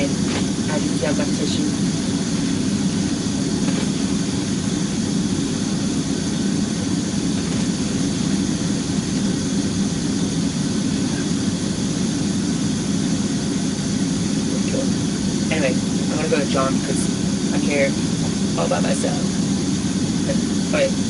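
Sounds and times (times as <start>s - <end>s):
jet airliner cabin drone: 0.0s - 21.0s.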